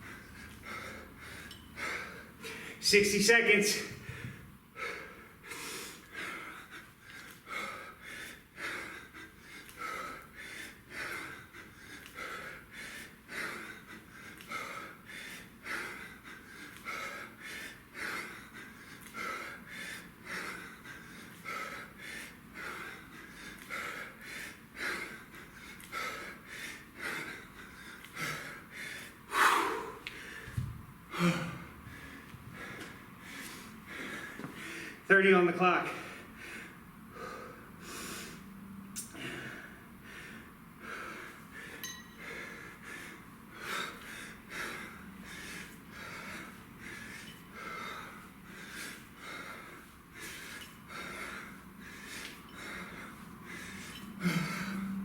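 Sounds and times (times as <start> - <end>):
man breathing hard: 0.0 - 3.0, 3.8 - 35.1, 35.8 - 55.0.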